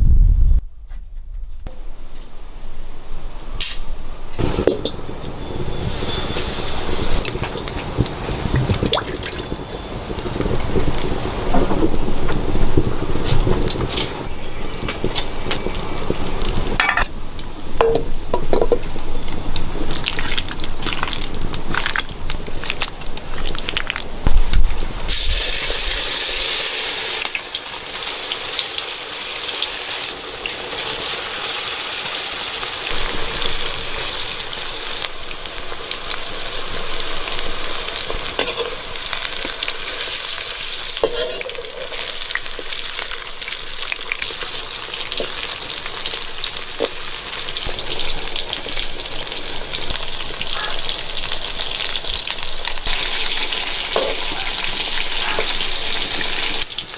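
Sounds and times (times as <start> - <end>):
frying sizzle: 4.4 - 56.9.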